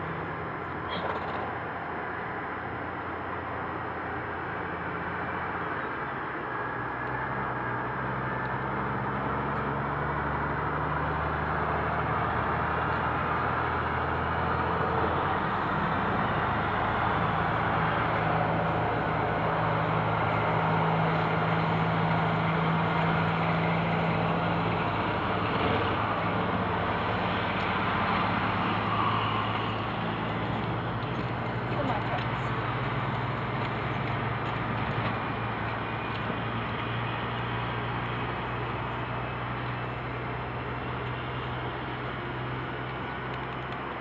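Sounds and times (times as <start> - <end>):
engine running: 0.0 - 44.0.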